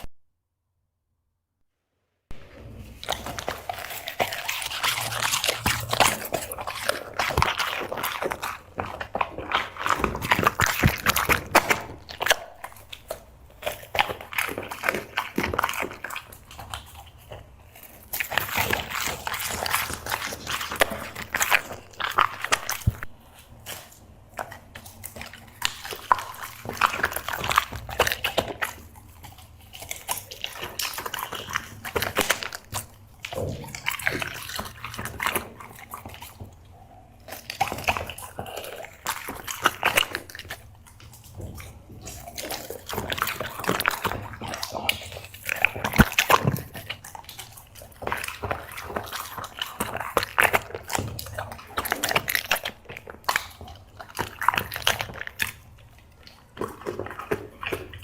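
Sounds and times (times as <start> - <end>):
dog chewing wetly: 2.3 - 58.0.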